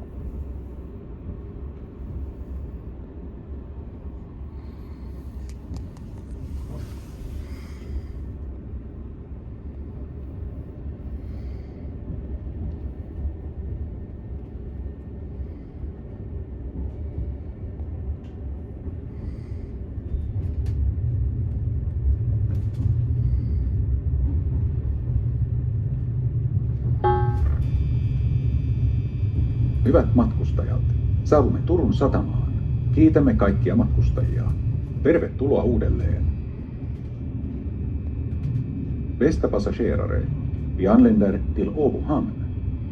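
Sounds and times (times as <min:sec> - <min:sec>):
train running rumble: 0:00.0 - 0:42.9.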